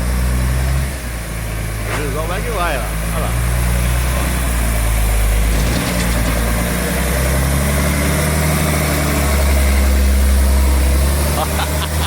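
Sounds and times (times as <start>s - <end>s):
large vehicle engine revving: 0.0s - 12.0s.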